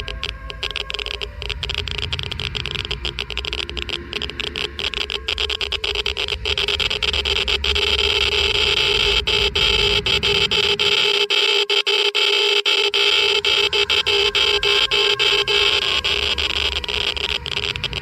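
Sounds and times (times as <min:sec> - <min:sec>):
geiger counter clicking: 0:00.0 - 0:18.0
steady droning tone: 0:00.0 - 0:18.0.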